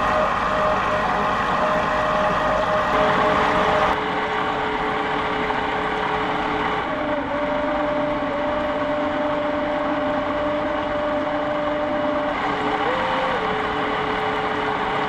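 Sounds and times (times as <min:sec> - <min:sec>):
boat motor whine: 0:00.0 - 0:15.0.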